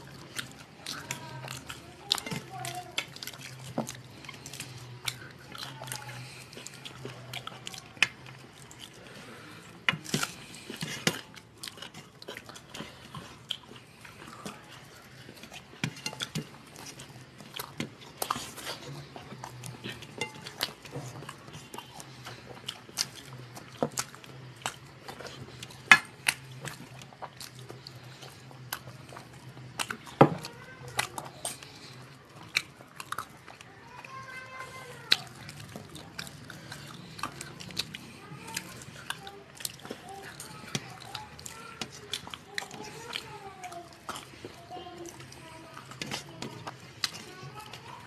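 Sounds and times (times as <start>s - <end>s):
wet chewing and lip smacks: 0.0s - 48.0s.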